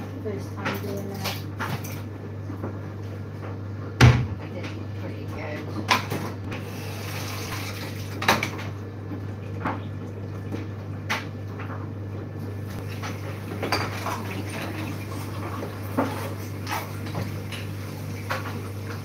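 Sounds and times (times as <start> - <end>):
water sloshing in sink: 0.0 - 3.0, 4.0 - 19.0.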